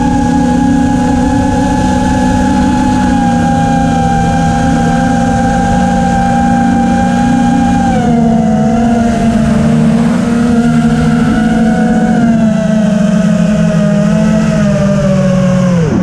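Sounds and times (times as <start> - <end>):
drone motors whining: 0.0 - 16.0
wind rumble: 0.0 - 16.0.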